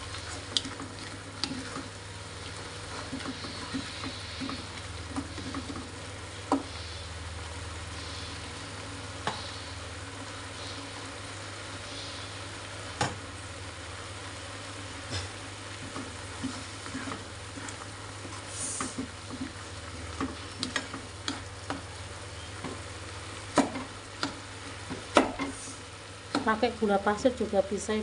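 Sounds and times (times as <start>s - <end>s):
spice paste sizzling in a pan: 0.0s - 28.0s.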